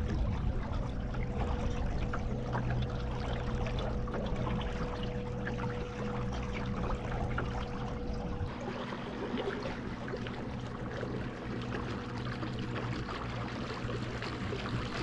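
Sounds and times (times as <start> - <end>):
low hum: 0.0 - 15.0
water trickling and lapping: 0.0 - 15.0.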